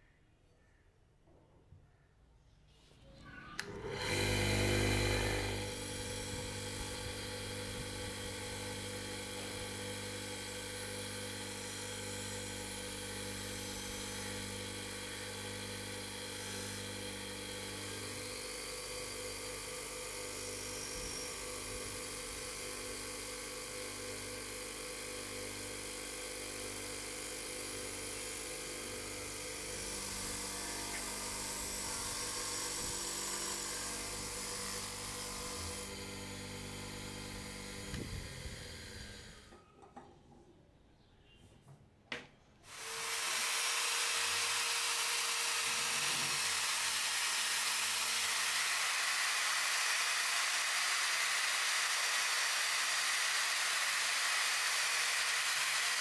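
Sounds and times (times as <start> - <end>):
bench grinder motor whine: 3.6 - 39.6, 42.7 - 56.0.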